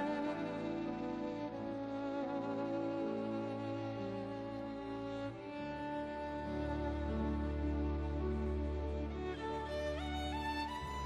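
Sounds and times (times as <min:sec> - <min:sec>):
slow bowed strings music: 0:00.0 - 0:11.0.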